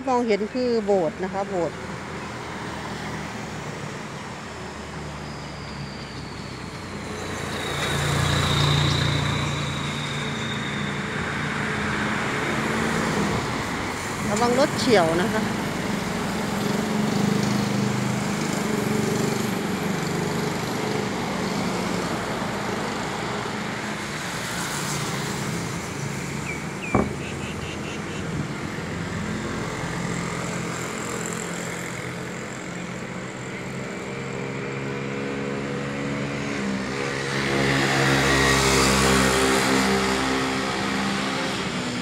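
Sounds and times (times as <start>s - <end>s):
car engines passing: 1.0s - 42.0s.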